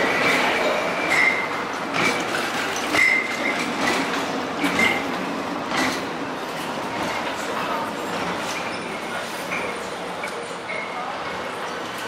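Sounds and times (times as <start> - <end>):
wheels squealing on rails: 0.0 - 5.2, 7.0 - 12.0
tram wheels clattering on track: 0.0 - 12.0.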